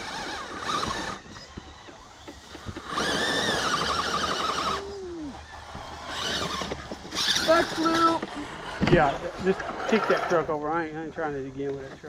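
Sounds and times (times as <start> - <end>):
electric motor whining: 0.0 - 10.5.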